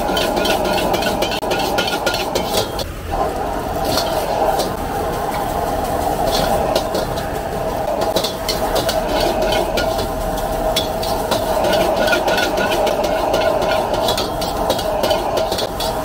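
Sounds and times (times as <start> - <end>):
metal ladle scraping wok: 0.0 - 2.9, 3.8 - 16.0
gas burner roaring: 0.0 - 16.0.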